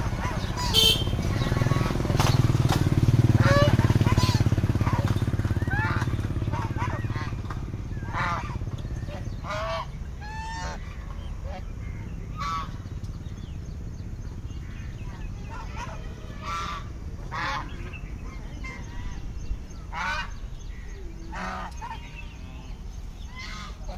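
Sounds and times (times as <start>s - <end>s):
geese honking: 0.0s - 12.8s, 14.7s - 22.6s, 23.2s - 23.9s.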